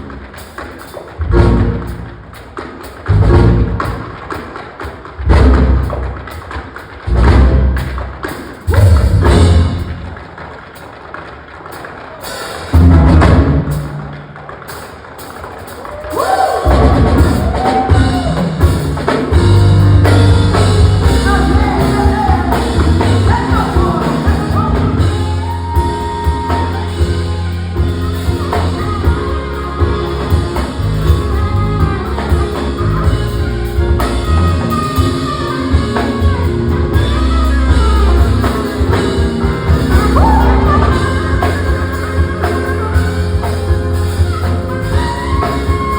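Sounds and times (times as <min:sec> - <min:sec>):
live band with drums and bass: 0:00.0 - 0:45.9.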